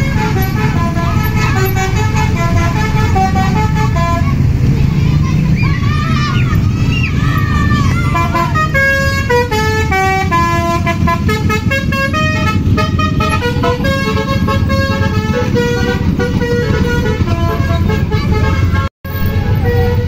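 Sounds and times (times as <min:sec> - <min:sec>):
musical bus horn tune: 0:00.0 - 0:04.7, 0:08.0 - 0:20.0
bus engine running: 0:00.0 - 0:20.0.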